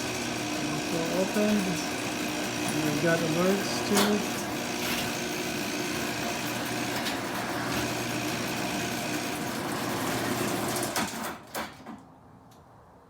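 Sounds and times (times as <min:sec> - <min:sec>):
garage door opener motor: 0:00.0 - 0:12.1.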